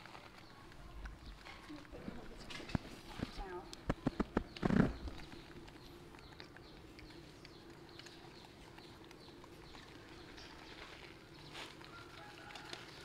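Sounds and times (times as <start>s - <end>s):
monkeys chewing: 0.0s - 13.0s.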